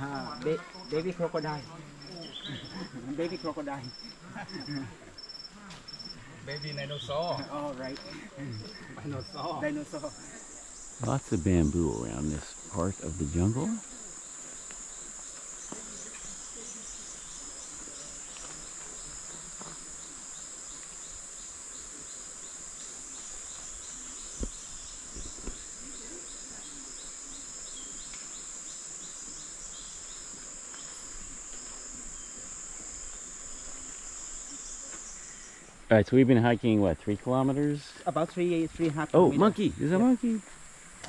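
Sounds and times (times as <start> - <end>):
insects droning high-pitched: 0.0 - 41.0
pulsing insect call: 0.0 - 41.0.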